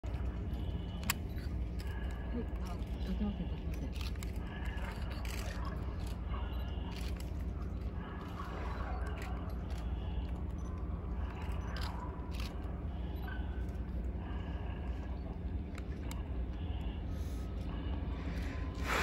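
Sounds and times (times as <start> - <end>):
distant traffic: 0.0 - 19.0
wind: 0.0 - 19.0.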